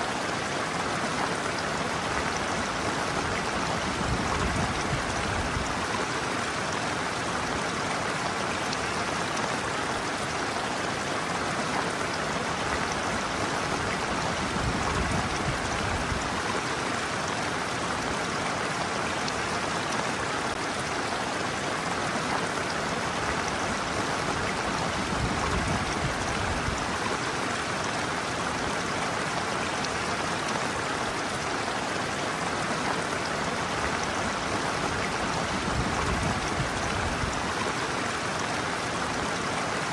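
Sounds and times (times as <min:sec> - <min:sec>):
stream water splashing over feet: 0:00.0 - 0:39.9.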